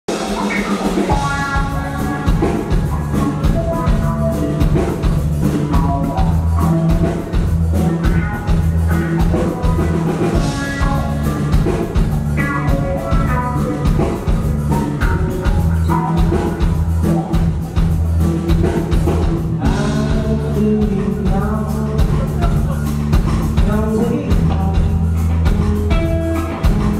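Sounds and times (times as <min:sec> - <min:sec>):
drums: 0:00.0 - 0:26.9
bass line: 0:00.1 - 0:26.9
electric guitar: 0:00.1 - 0:26.9.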